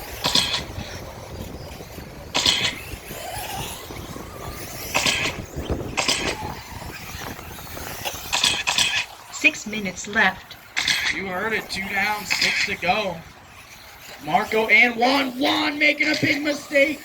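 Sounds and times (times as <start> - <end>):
electric rc trucks racing: 0.0 - 17.0
trucks passing close: 0.0 - 17.0.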